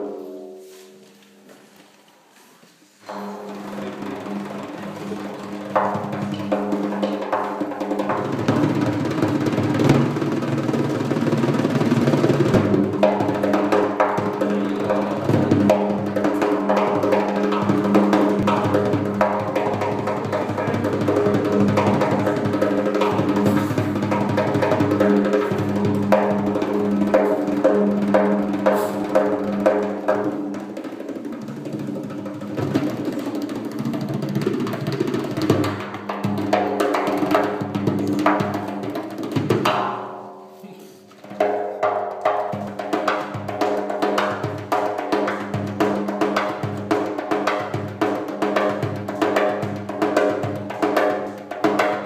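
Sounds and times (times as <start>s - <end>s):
frame drum played by hand: 0.0s - 1.0s, 3.0s - 52.0s.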